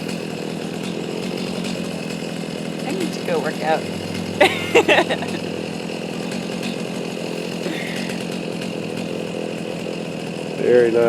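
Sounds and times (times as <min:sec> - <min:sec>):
chainsaw idling: 0:00.0 - 0:11.0.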